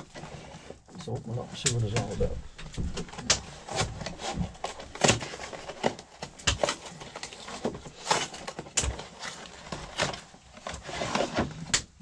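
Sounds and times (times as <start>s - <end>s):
cardboard and packaging crinkling: 0.0s - 12.0s.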